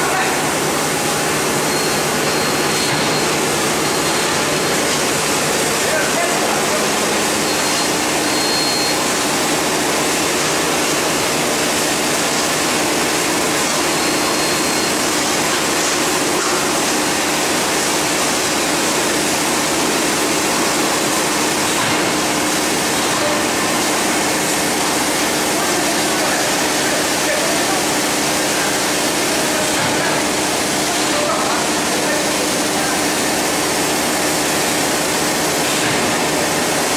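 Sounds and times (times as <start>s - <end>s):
conveyors rushing noise: 0.0s - 36.9s.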